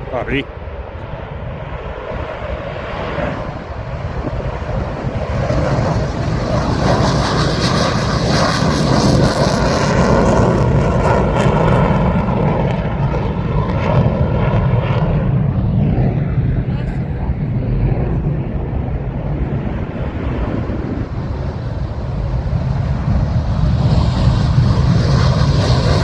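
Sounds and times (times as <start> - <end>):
aircraft engines: 0.0 - 26.0.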